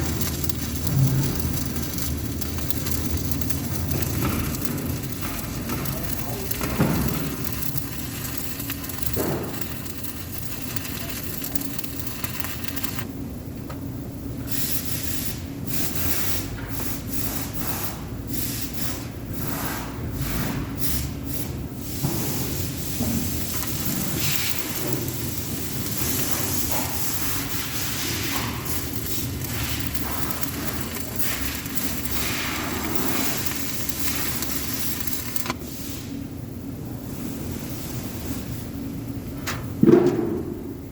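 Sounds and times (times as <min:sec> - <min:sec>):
welding arc hissing and crackling: 0:00.0 - 0:13.2, 0:14.2 - 0:39.6.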